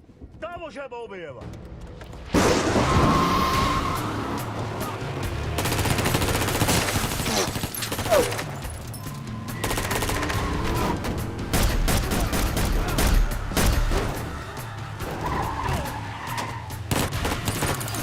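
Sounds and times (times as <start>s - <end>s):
film music score: 0.0s - 18.0s.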